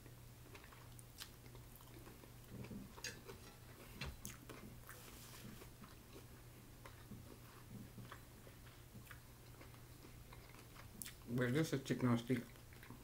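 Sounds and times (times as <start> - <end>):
faint chewing: 0.0 - 13.0
faint steady hum: 0.0 - 13.0.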